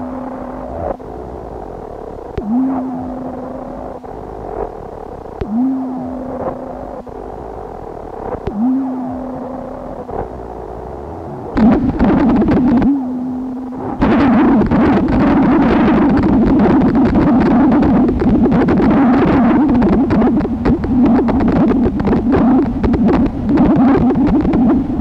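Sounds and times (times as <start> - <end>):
crackling hissing electronic noise: 0.0 - 25.0
low hum: 0.0 - 25.0
steady electronic tone: 0.0 - 25.0.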